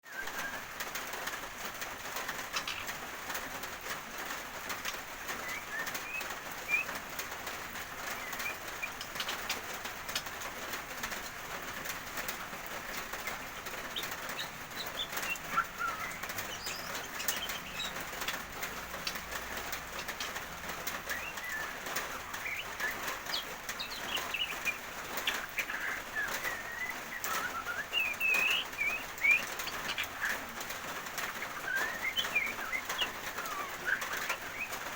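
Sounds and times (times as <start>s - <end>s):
small birds chirping: 0.0s - 34.9s
steady rain: 0.0s - 34.9s.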